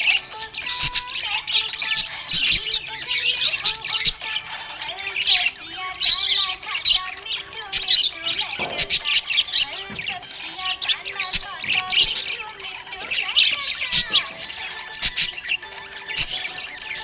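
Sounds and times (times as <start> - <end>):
budgerigars chirping: 0.0 - 17.0.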